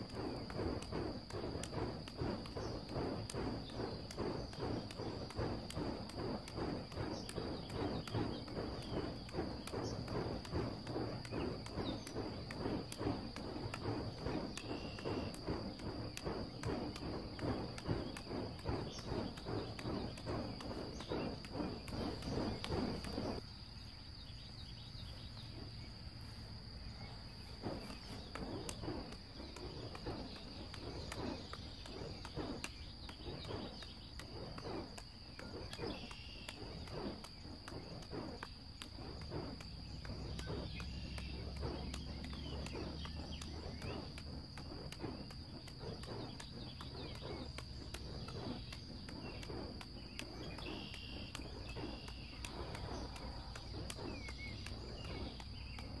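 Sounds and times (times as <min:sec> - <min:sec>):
fire torches whooshing: 0:00.0 - 0:23.6, 0:25.0 - 0:56.0.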